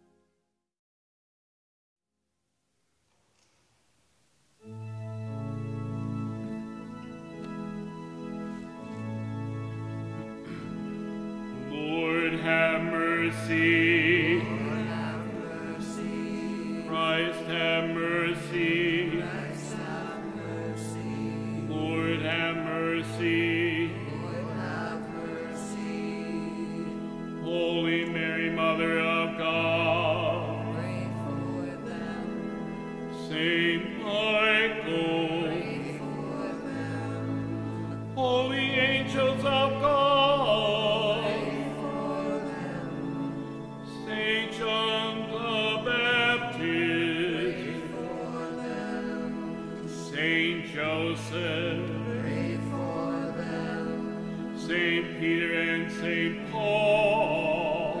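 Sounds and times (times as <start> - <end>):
operatic singing with vibrato: 11.4 - 58.0.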